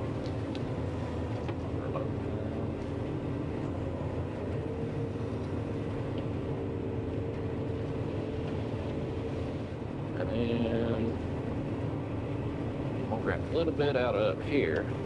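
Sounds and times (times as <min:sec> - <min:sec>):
combine harvester engine droning: 0:00.0 - 0:15.0.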